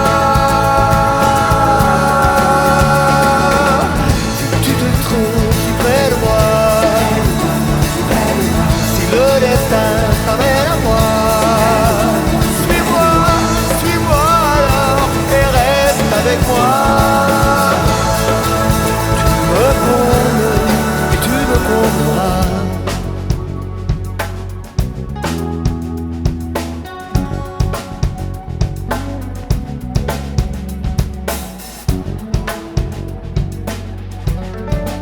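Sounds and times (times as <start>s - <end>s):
pop-rock song with singing: 0.0s - 35.0s.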